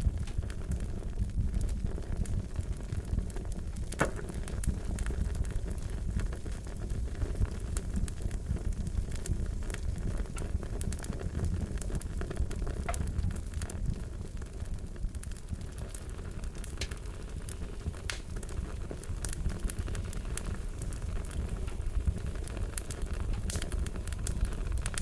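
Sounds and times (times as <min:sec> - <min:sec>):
fire pops and snaps: 0:00.0 - 0:25.0
wood fire crackling: 0:00.0 - 0:25.0.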